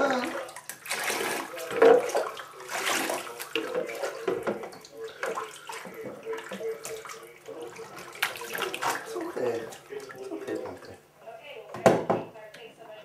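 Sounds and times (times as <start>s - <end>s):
water splashing in bathtub: 0.0s - 11.2s.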